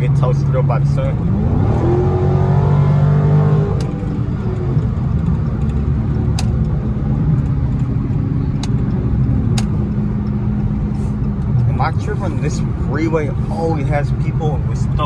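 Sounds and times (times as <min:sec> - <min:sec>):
car engine at highway speed: 0:00.0 - 0:15.0
road noise: 0:00.0 - 0:15.0.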